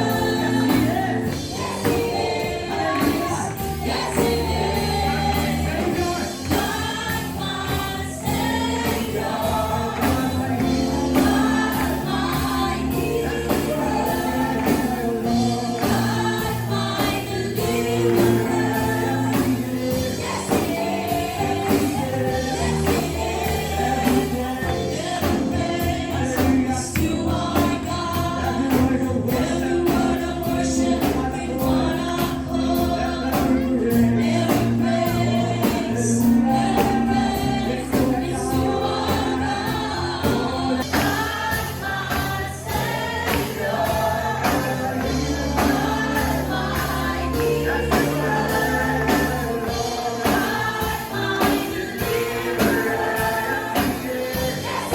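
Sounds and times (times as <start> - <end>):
bass and drums: 0.0 - 54.9
choir singing gospel song: 0.0 - 54.9.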